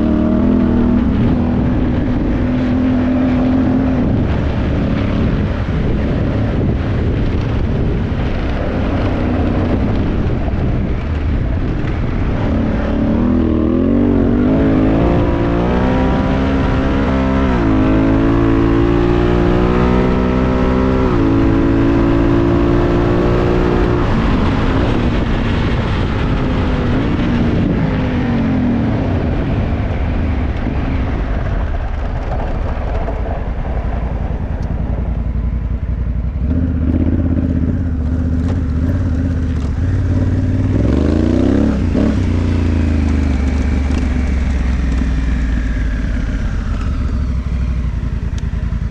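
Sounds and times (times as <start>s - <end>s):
motorcycle engine shifting gears: 0.0s - 48.9s
rushing wind noise: 0.0s - 48.9s.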